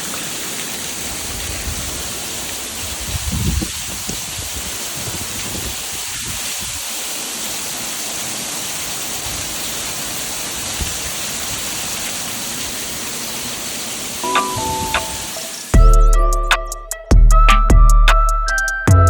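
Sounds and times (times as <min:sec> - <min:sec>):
heavy rain hissing: 0:00.0 - 0:16.4.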